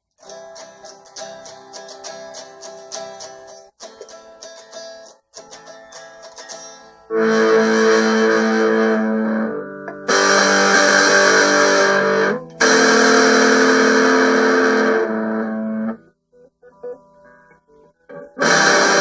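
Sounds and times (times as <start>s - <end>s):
guitar chords strummed: 0.2s - 19.0s.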